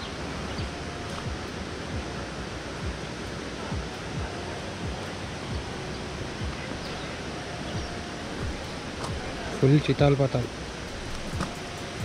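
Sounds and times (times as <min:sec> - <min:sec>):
short low thumps: 0:00.0 - 0:12.0
water rushing from waterfall: 0:00.0 - 0:12.0.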